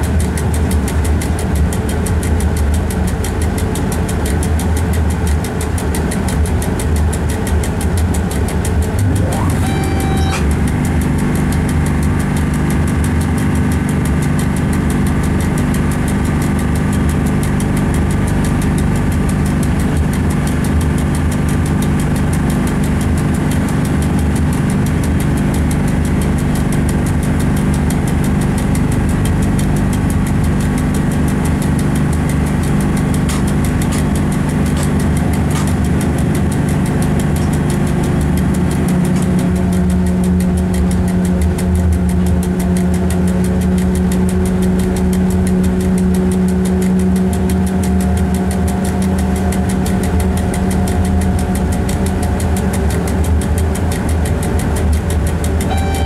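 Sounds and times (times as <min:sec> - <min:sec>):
locomotive droning in cab: 0:00.0 - 0:56.0.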